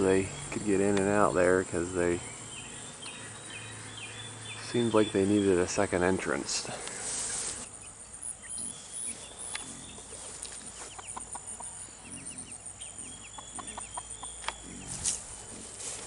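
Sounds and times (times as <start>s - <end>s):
chicks peeping: 0.0s - 16.0s
hen clucking: 0.0s - 16.0s.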